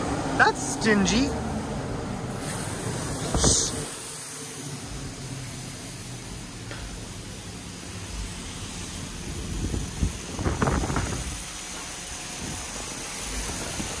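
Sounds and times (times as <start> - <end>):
steady hiss: 2.2 - 14.0.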